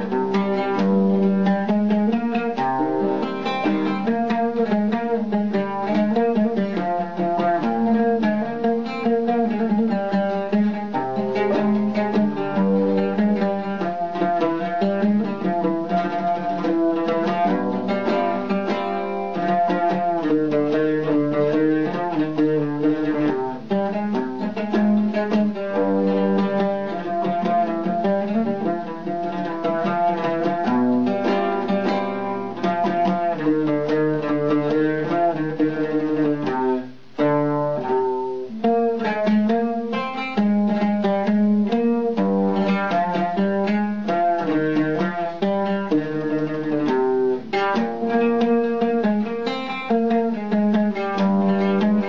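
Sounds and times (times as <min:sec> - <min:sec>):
oud playing plucked melody: 0:00.0 - 0:52.0.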